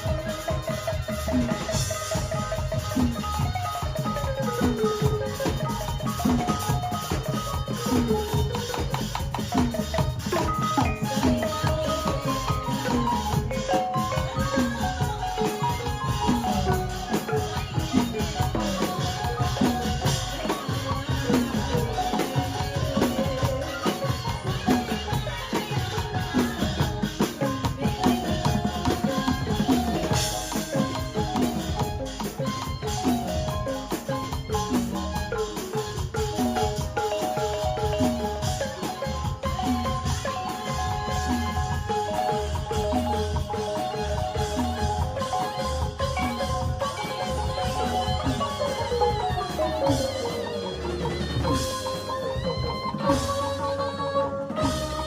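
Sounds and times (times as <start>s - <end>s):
light percussion: 0.0s - 55.0s
upbeat marimba-like tune: 0.0s - 55.0s.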